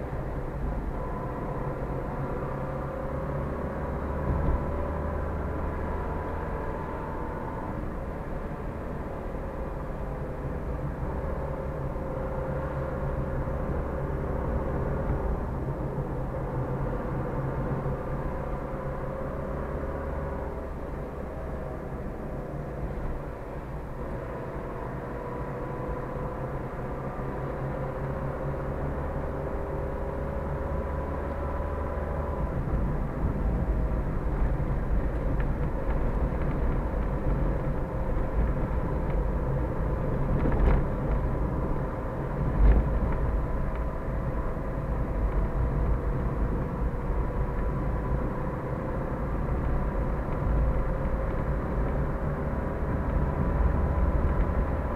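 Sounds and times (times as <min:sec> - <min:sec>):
engine and tyre noise: 0:00.0 - 0:54.9.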